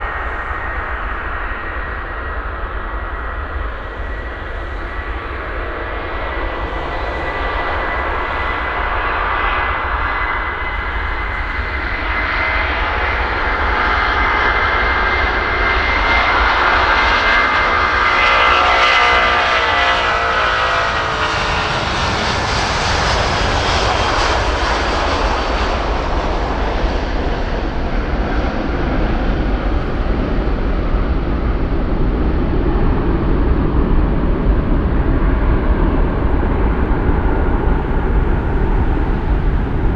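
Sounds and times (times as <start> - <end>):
jet engines roaring: 0.0 - 39.9.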